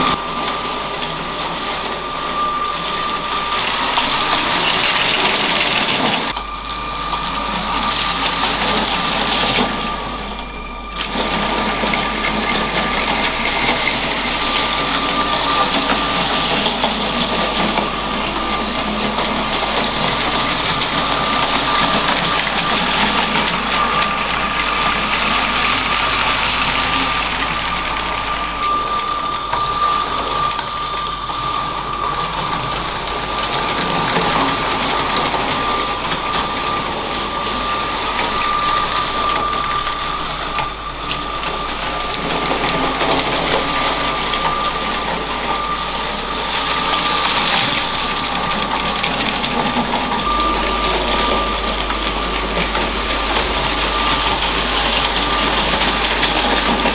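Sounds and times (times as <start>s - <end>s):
plastic wheels rattling on track: 0.0s - 56.9s
toy train motor whining: 0.0s - 56.9s.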